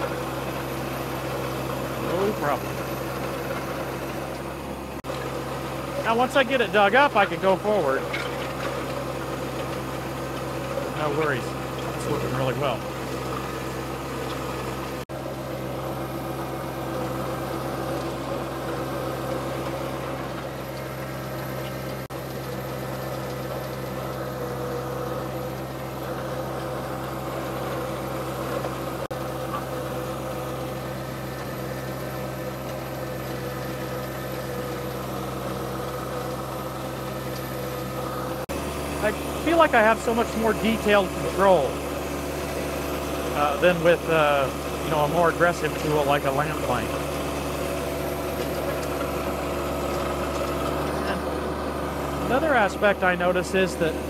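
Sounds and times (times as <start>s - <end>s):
leveler scraping gravel: 0.0s - 54.0s
tractor diesel engine under load: 0.0s - 54.0s.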